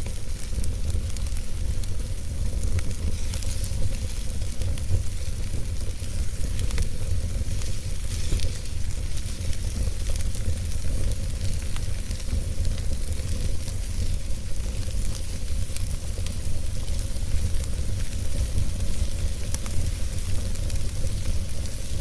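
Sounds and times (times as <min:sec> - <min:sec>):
fire crackling and popping: 0:00.0 - 0:22.0
flames hissing and rumbling: 0:00.0 - 0:22.0.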